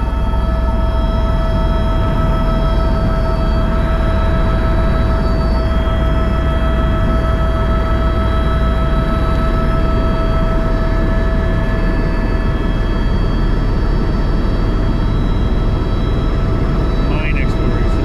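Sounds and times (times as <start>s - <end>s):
helicopter rotor and turbine drone: 0.0s - 18.0s
high whining tones: 0.0s - 18.0s.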